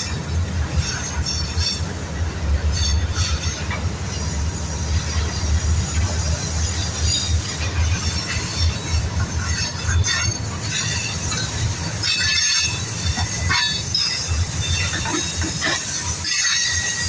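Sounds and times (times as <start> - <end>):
freight train rumble: 0.0 - 17.0
steel wheels squealing: 0.0 - 17.0.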